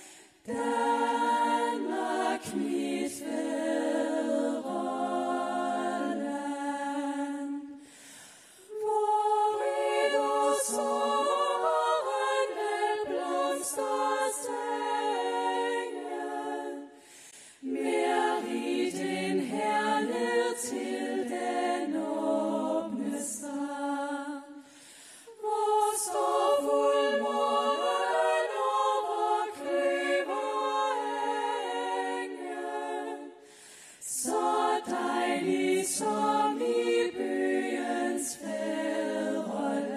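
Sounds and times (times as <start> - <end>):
women singing a cappella: 0.0 - 39.9.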